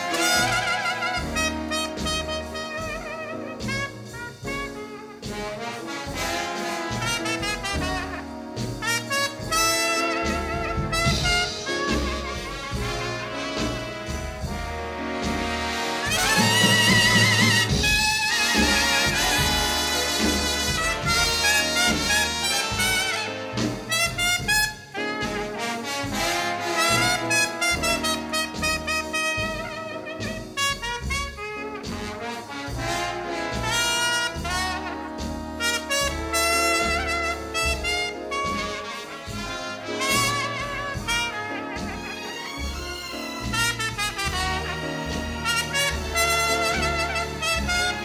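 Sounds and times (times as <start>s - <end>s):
string orchestra: 0.0s - 24.2s, 24.8s - 48.0s
bass: 0.0s - 48.0s
drums: 0.0s - 48.0s
jazz trumpet with vibrato: 0.0s - 48.0s.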